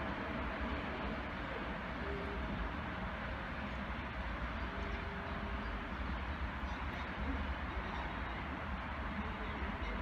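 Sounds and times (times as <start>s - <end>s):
distant train rumbling: 0.0s - 10.0s.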